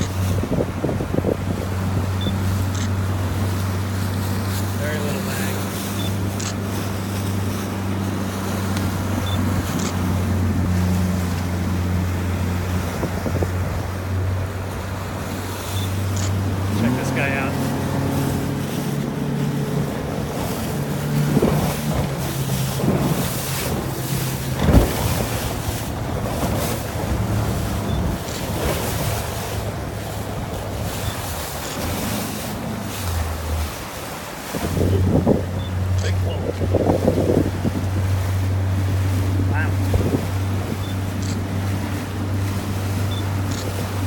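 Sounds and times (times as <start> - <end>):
motorboat engine humming: 0.0 - 44.0
water rushing past hull: 0.0 - 44.0
wind on microphone: 0.0 - 44.0.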